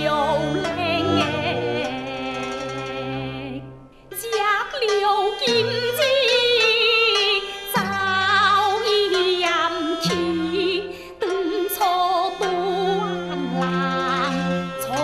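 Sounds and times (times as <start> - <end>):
woman singing opera: 0.0 - 3.6, 4.2 - 15.0
instrumental accompaniment: 0.0 - 15.0.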